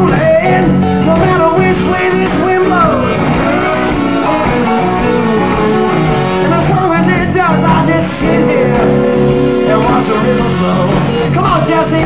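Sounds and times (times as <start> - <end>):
lead guitar bending: 0.0 - 12.0
live blues-rock band: 0.0 - 12.0
person singing: 0.0 - 12.0
steady bass: 0.0 - 12.0.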